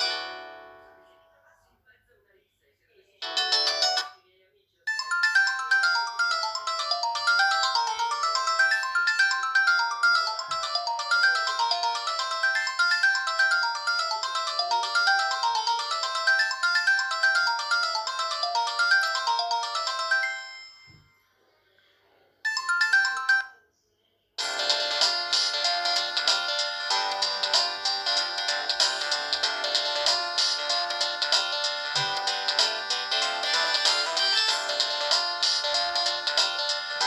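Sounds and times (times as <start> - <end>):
polyphonic phone ringtone: 0.0 - 1.0, 3.2 - 4.2, 4.9 - 21.2, 22.5 - 23.6, 24.4 - 37.0.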